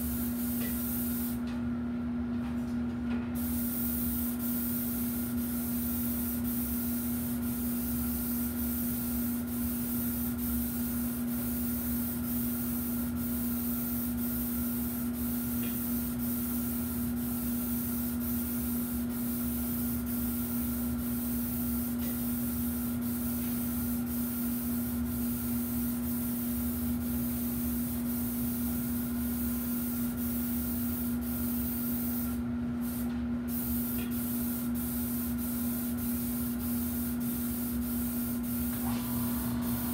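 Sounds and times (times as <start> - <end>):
hiss of sprayed paint: 0.0 - 1.4, 3.4 - 39.9
paint sprayer hum: 0.0 - 1.4, 3.4 - 39.9.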